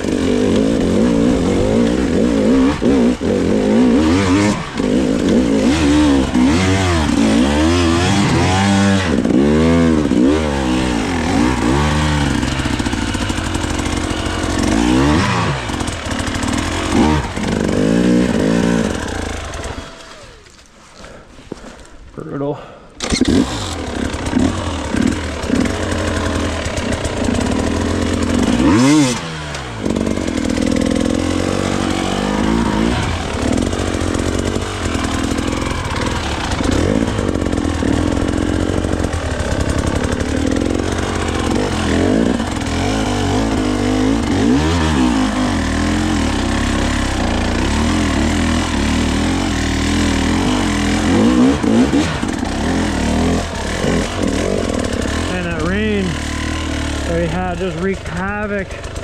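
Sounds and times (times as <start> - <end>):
dirt bike engine revving: 0.0 - 20.6, 23.0 - 59.0.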